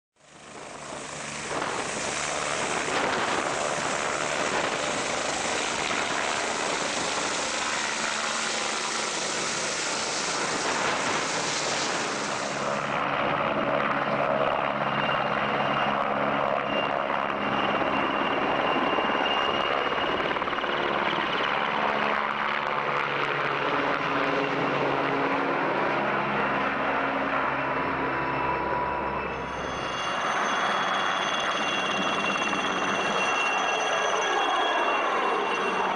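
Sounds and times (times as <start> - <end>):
helicopter rotor and turbine: 0.2 - 35.9.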